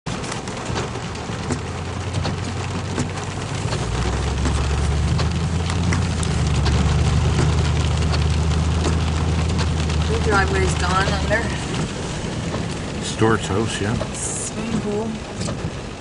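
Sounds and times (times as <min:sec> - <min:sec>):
heavy rain pattering: 0:00.1 - 0:16.0.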